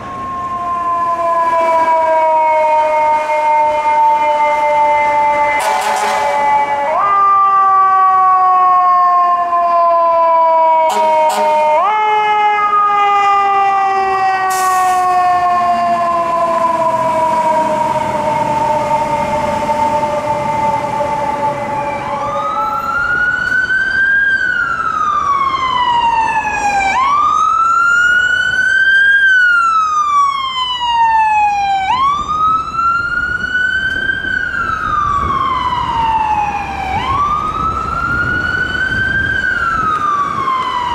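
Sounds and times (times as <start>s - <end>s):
siren wailing up and down: 0.0s - 40.9s
siren winding down: 0.0s - 40.9s.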